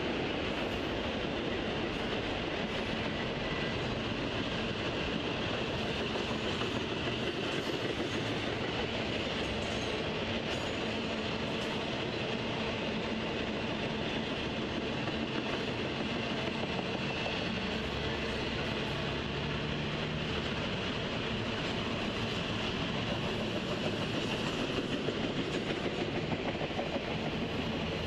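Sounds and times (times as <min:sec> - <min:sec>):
freight train rolling past: 0:00.0 - 0:28.0.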